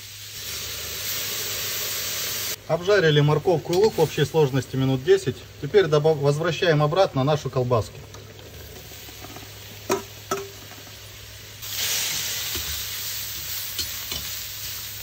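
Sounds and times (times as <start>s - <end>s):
sausage sizzling: 0.0s - 15.0s.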